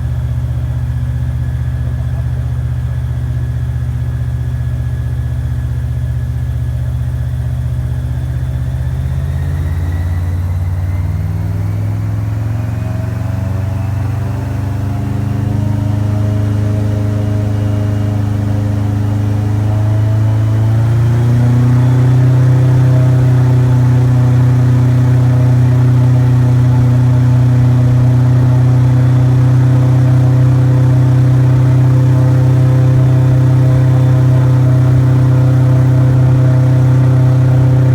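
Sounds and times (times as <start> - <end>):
airboat engine and propeller: 0.0 - 37.9.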